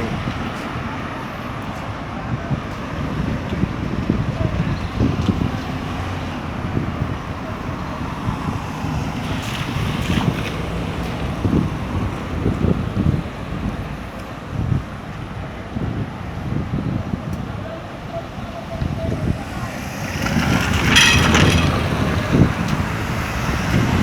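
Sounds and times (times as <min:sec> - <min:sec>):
street traffic noise: 0:00.0 - 0:24.0
wind buffeting microphone: 0:00.0 - 0:24.0.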